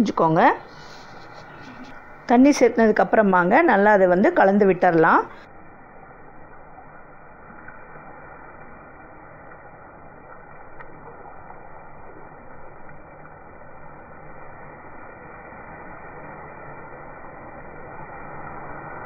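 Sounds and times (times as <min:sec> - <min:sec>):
gravy hissing in a pan: 0:00.1 - 0:05.5, 0:07.1 - 0:19.0.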